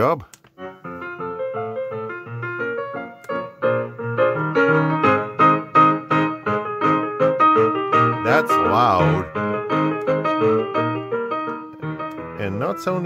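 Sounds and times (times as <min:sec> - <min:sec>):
piano-like keyboard music: 0:00.0 - 0:13.0.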